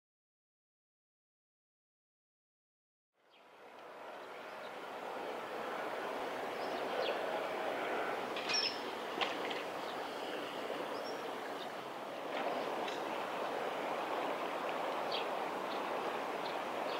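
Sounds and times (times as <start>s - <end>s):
river flowing: 3.2s - 16.9s.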